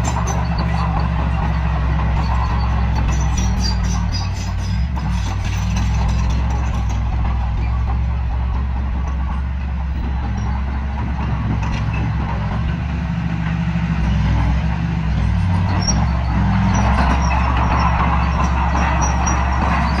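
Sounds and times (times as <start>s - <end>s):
diesel engine of heavy machinery: 0.0s - 20.0s.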